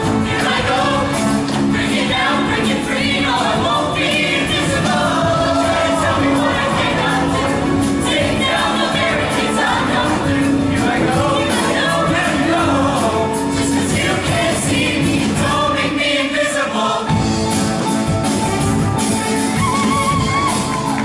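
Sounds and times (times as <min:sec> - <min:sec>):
choir singing: 0:00.0 - 0:17.4
instrumental accompaniment: 0:00.0 - 0:21.0.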